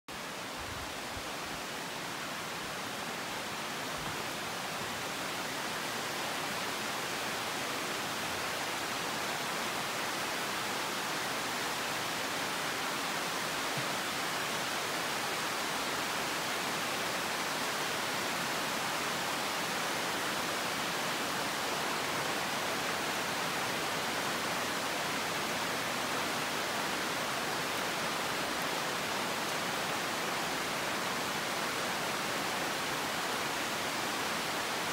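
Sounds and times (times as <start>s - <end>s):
heavy rain on foliage: 0.1s - 34.9s.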